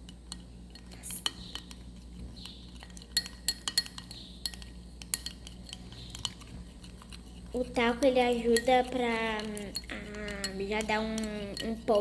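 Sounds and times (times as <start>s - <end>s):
utensil stirring thick glue: 0.0s - 12.0s.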